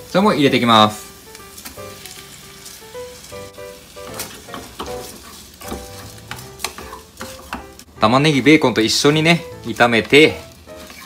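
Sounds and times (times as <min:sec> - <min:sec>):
food sizzling in a tin: 0:00.0 - 0:11.0.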